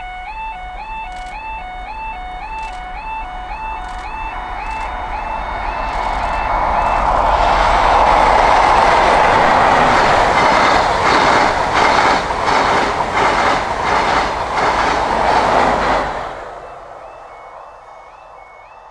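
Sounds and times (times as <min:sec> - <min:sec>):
wheels clickety-clack on rails: 0:00.8 - 0:18.9
train passing at speed: 0:01.1 - 0:18.9.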